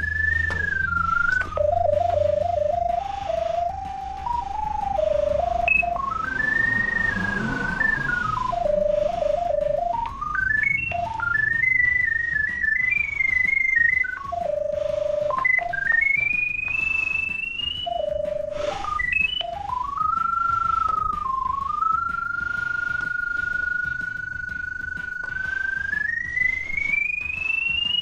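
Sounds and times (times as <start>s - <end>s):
electronic tone changing pitch: 0.0s - 28.0s.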